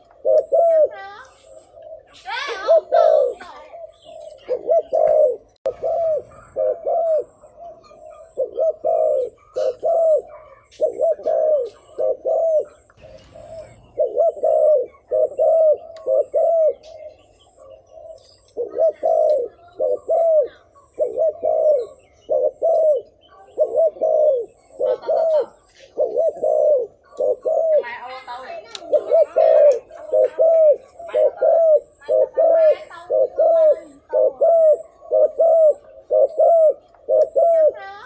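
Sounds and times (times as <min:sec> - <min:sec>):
dove cooing rapidly: 0:00.0 - 0:38.0.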